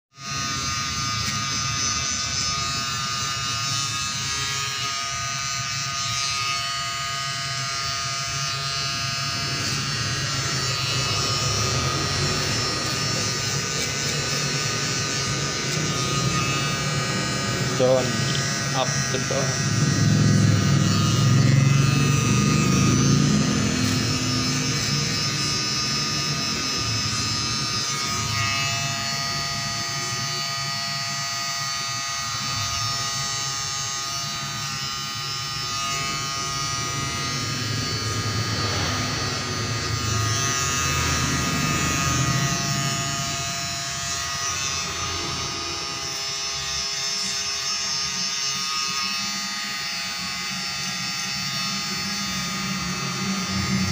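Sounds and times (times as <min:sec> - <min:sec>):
electric shaver buzzing: 0:00.1 - 0:53.9.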